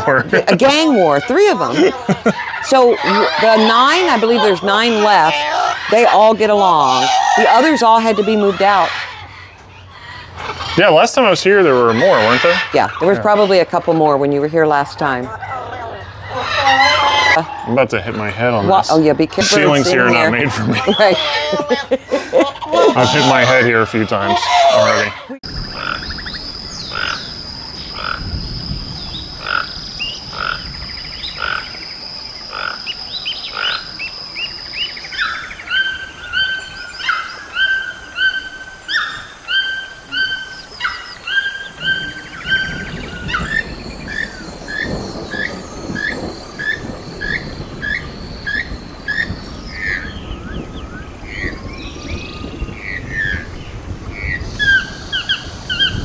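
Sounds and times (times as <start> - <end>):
toucans calling: 0.0 - 56.0.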